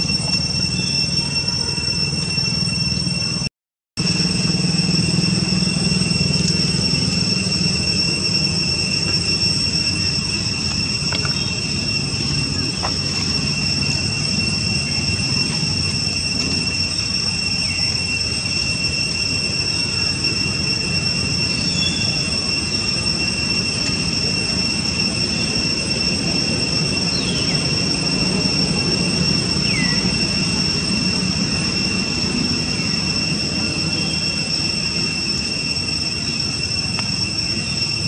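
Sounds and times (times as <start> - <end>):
faint falling squeaks: 0.0 - 38.0
high-pitched drone: 0.0 - 38.0.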